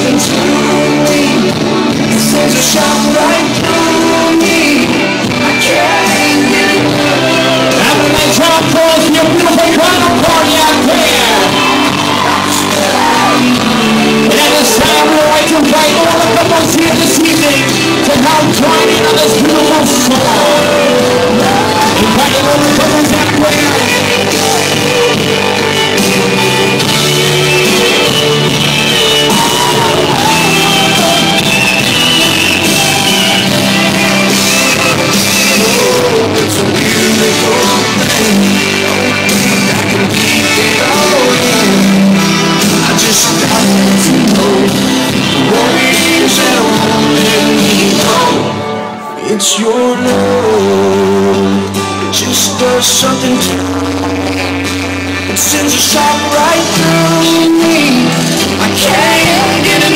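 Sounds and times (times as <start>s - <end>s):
loud recorded song with singer: 0.0s - 59.9s.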